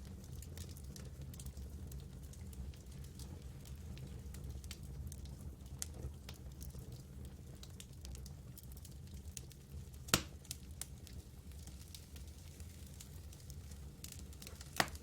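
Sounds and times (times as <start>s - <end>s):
campfire crackling: 0.1s - 15.0s.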